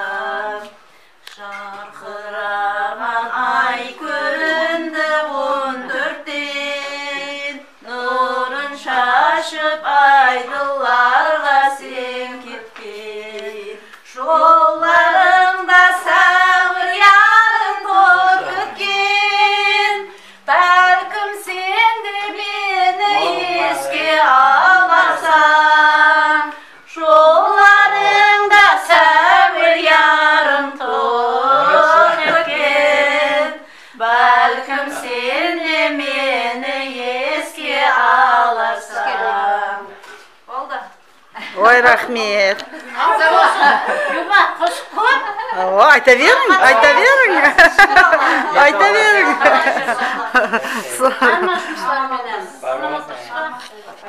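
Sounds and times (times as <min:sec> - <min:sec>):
women singing unaccompanied: 0:00.0 - 0:41.5, 0:46.2 - 0:54.0.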